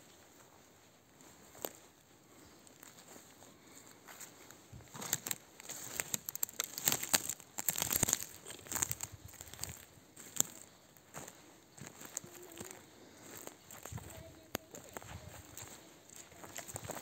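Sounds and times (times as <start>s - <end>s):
faint rustling: 0.0s - 17.0s
footsteps snapping dry twigs: 1.5s - 1.8s, 2.6s - 17.0s.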